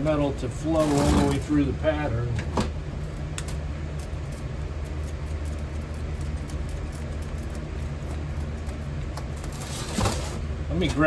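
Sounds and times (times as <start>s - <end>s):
furnace low rumble: 0.0s - 11.0s.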